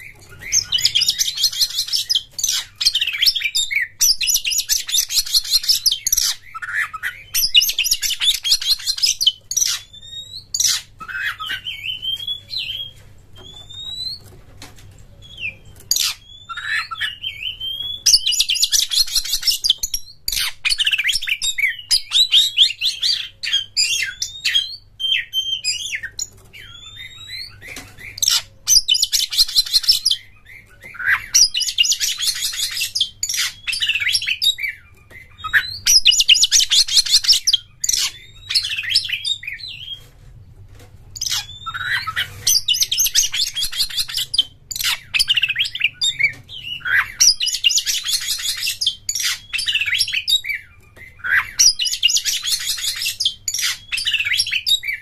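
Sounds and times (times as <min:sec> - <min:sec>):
magpie-robin singing trills and whistles: 0:00.0 - 0:14.3, 0:15.2 - 0:40.0, 0:41.2 - 0:55.0.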